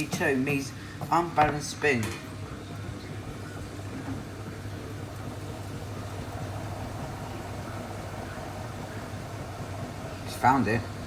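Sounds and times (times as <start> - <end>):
washing machine drum humming: 0.0 - 11.0.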